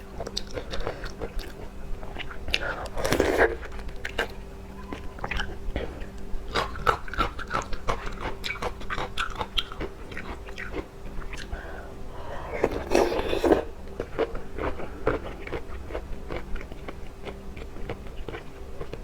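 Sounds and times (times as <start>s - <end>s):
faint steady hum: 0.0s - 19.0s
person chewing crunchy food: 0.0s - 19.0s.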